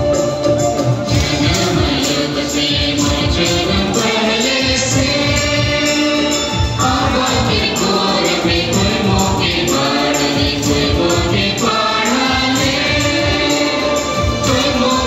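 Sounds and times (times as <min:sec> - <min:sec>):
repeating drum beat: 0:00.0 - 0:15.0
group of voices singing: 0:01.0 - 0:15.0.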